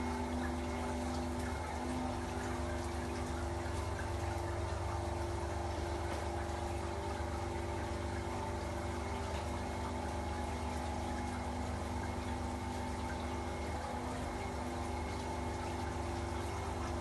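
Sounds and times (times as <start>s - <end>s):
ice machine mechanical hum: 0.0s - 17.0s
water washing over drum: 0.0s - 17.0s.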